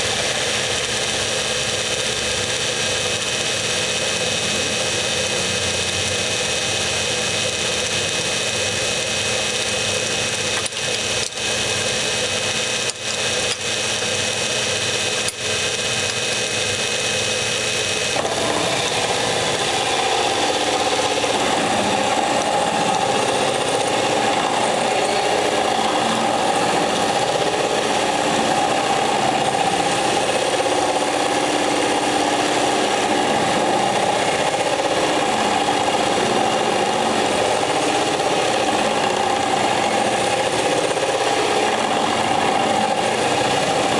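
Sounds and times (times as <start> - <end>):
lathe motor whine: 0.0 - 43.9
rough metal cutting noise: 0.0 - 43.9.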